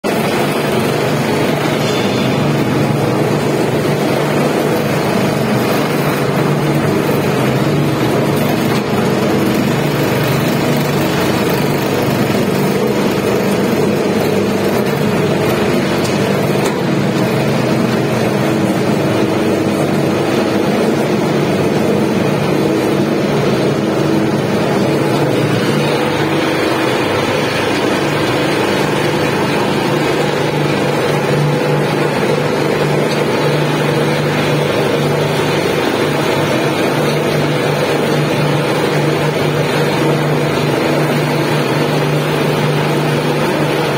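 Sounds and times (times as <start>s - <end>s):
shredder tearing textiles: 0.1s - 43.9s.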